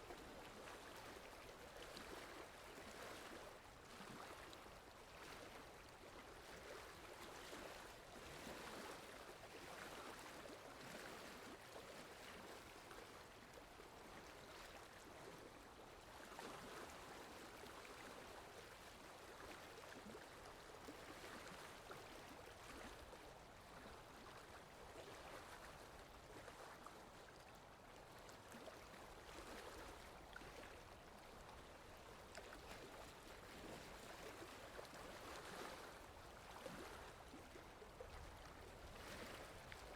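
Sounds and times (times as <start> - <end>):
lake water lapping: 0.1 - 39.9.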